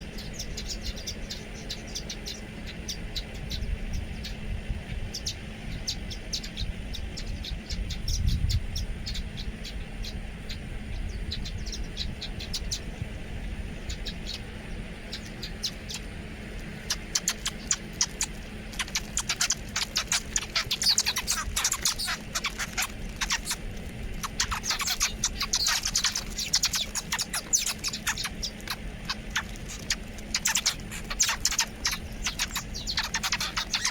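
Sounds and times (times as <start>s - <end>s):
small birds chirping: 0.0s - 33.9s
steady low rumble: 0.0s - 33.9s.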